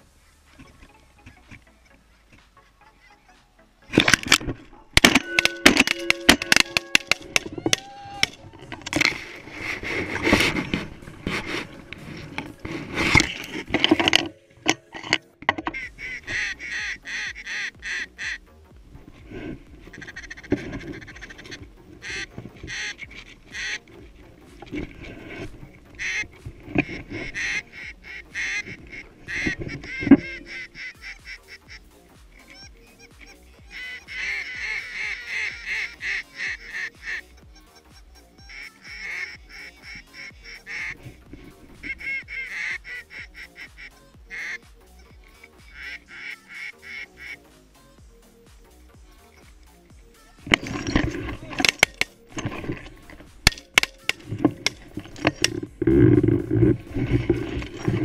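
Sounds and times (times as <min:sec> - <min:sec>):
geese honking: 0:00.0 - 0:47.9, 0:49.0 - 0:58.0.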